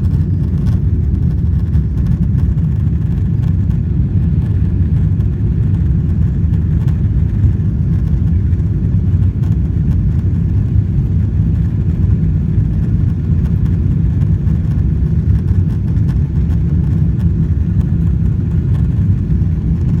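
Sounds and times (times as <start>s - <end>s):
vehicle rumble from inside cabin: 0.0s - 20.0s.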